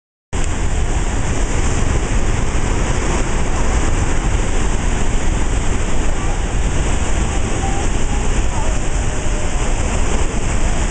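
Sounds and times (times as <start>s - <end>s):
white water rushing: 0.4s - 10.9s.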